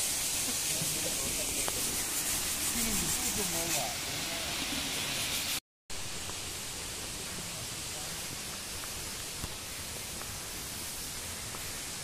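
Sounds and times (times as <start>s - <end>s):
dull steady hiss: 0.0s - 12.0s.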